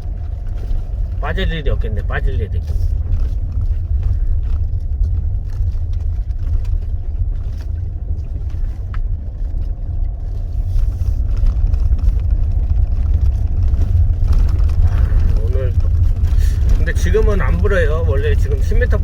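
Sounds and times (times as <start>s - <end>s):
car driving on dirt track: 0.0s - 19.0s.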